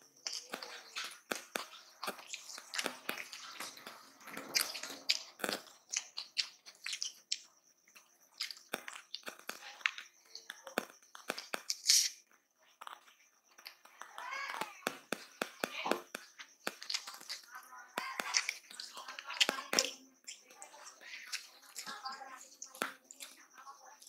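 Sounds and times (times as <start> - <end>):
fingers squishing rice: 0.0 - 24.0
mouth chewing with wet smacks: 0.1 - 12.2, 12.8 - 24.0.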